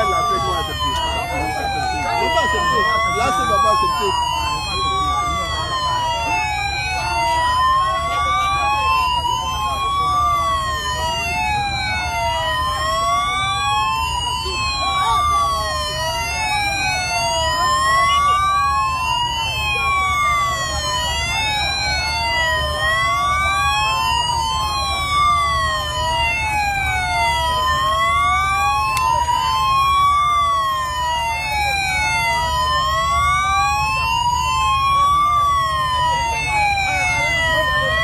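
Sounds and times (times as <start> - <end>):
crowd noise: 0.0 - 38.0
low rumble of engines: 0.0 - 38.0
sirens wailing: 0.0 - 38.0.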